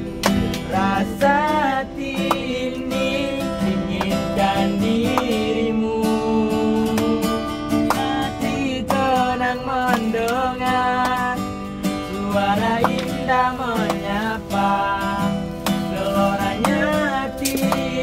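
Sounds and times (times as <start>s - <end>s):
strummed acoustic guitar: 0.0s - 18.0s
man singing: 0.6s - 11.5s, 12.1s - 18.0s.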